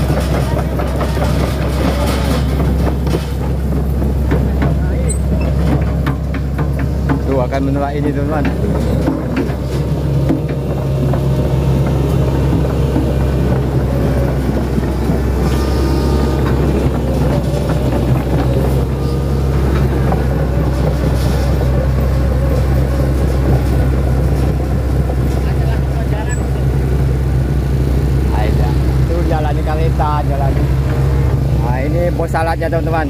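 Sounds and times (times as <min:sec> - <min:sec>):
excavator diesel engine drone: 0:00.0 - 0:33.0.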